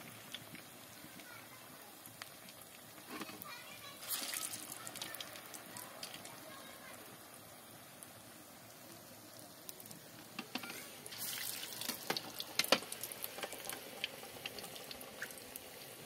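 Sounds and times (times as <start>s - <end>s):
fritters deep-frying in oil: 0.0s - 16.0s.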